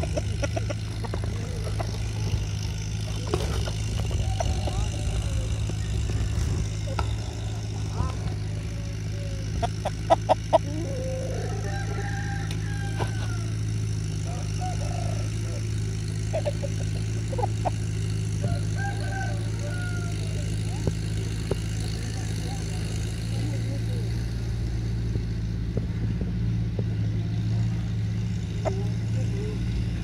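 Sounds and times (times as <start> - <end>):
rooster clucking: 0.0 - 24.2, 28.4 - 29.7
low hum: 0.0 - 30.0.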